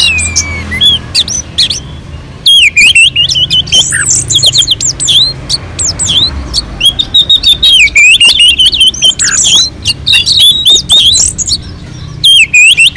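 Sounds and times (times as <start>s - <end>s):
thrush singing: 0.0s - 12.9s.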